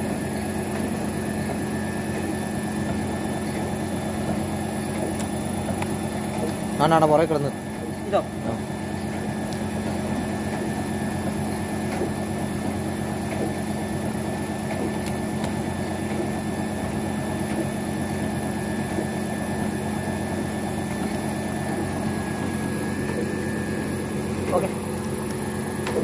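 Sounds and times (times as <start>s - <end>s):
water pump motor humming: 0.0s - 26.0s.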